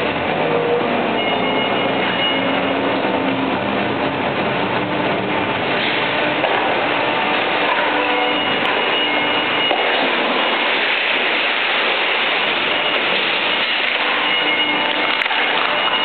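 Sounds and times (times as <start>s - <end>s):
baler and conveyor running: 0.0s - 16.0s.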